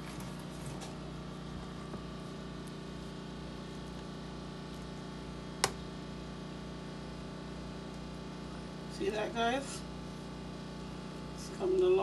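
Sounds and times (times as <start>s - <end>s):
kitchen low hum: 0.0s - 12.0s.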